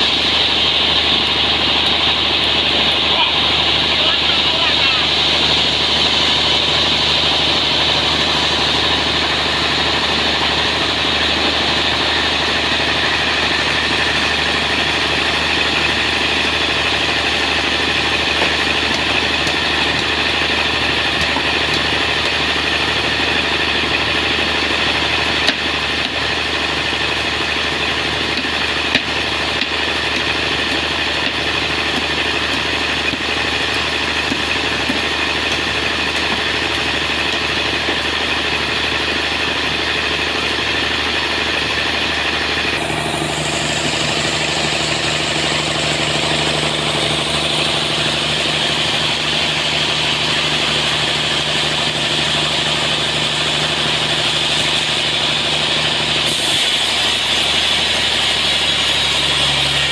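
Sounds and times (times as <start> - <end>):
high saw whine: 0.0 - 59.9
sawmill machine running: 0.0 - 59.9.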